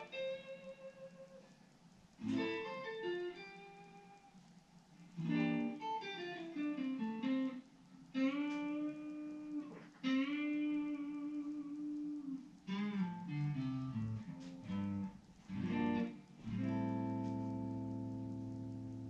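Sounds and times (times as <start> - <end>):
electric guitar notes: 0.0 - 4.4, 5.1 - 19.0.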